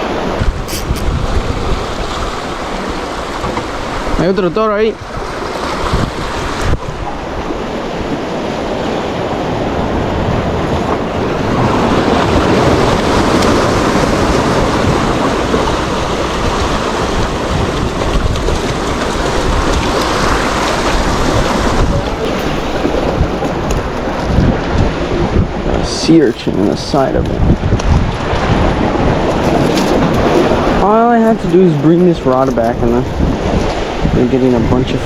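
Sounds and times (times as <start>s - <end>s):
ocean surf: 0.0s - 35.0s
wind buffeting microphone: 0.0s - 35.0s.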